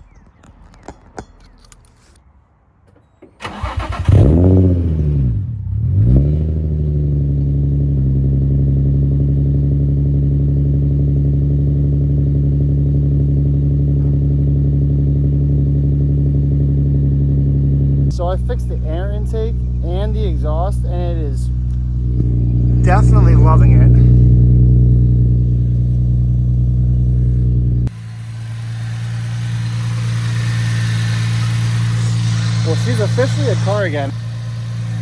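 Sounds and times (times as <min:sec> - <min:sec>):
car engine starting and idling: 0:02.8 - 0:35.0
engine revving: 0:03.4 - 0:35.0.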